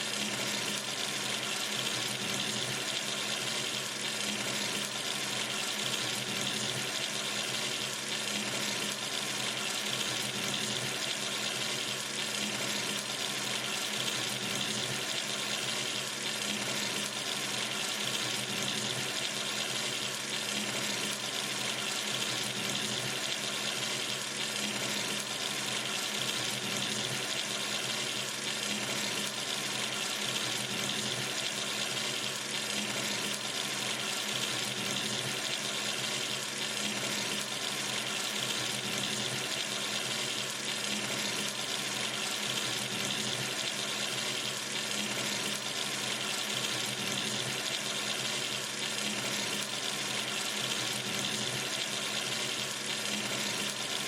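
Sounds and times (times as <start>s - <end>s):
tap water running into basin: 0.0s - 54.0s.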